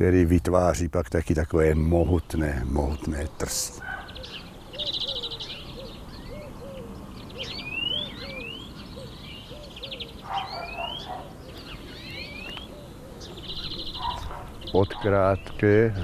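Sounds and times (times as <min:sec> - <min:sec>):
birds trilling and whistling: 0:00.0 - 0:16.0.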